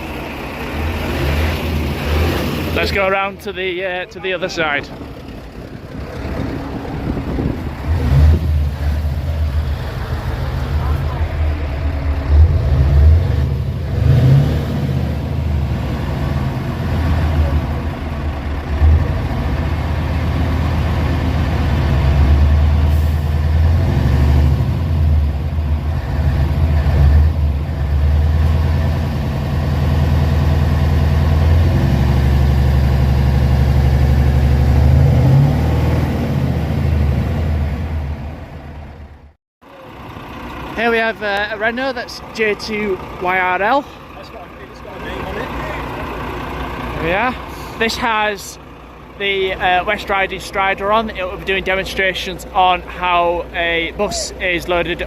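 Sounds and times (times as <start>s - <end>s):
truck engine idling: 0.0s - 35.4s, 36.3s - 55.0s.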